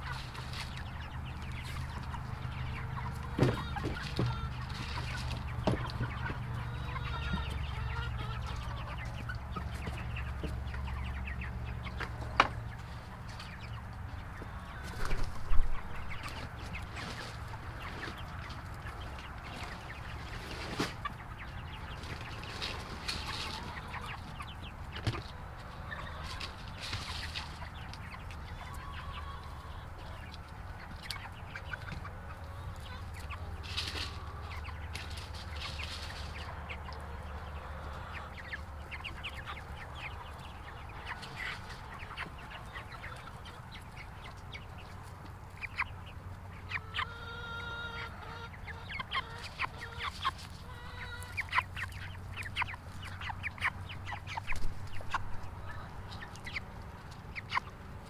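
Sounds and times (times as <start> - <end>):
chickens clucking and peeping: 0.0 - 58.0.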